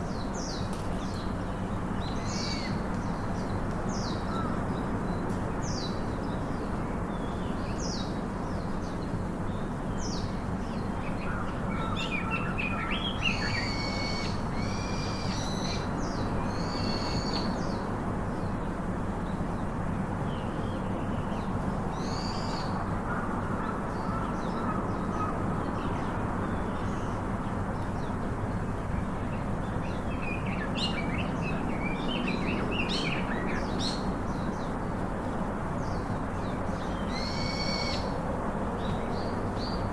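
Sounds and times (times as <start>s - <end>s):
wild birds chirping: 0.0s - 35.1s, 35.7s - 38.2s
steady background hiss: 0.0s - 39.9s.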